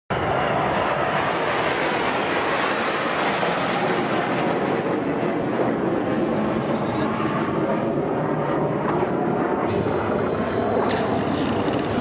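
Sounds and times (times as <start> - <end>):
jet aircraft rushing overhead: 0.1 - 12.0.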